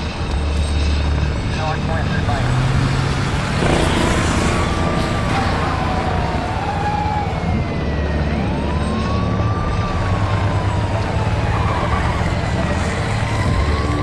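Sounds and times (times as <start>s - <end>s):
siren wailing: 1.6s - 14.0s.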